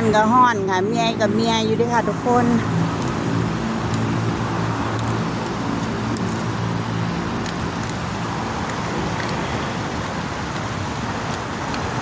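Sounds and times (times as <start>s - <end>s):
engine humming: 0.0s - 12.0s
road traffic noise: 0.0s - 12.0s.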